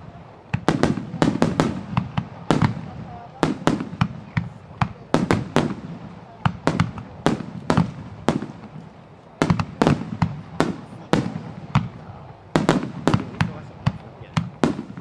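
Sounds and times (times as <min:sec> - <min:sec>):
firework bangs echoing: 0:00.0 - 0:15.0.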